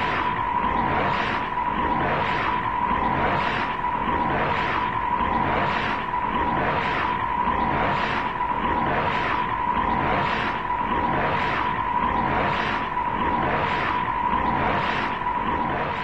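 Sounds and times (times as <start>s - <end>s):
rhythmic whooshing swells: 0.0s - 16.0s.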